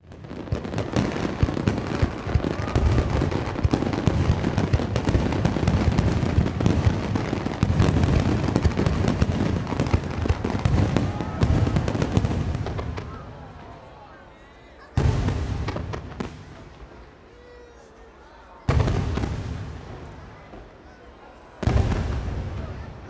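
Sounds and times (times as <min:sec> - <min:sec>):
fireworks bursting: 0:00.0 - 0:14.0, 0:14.8 - 0:17.8, 0:18.7 - 0:23.0.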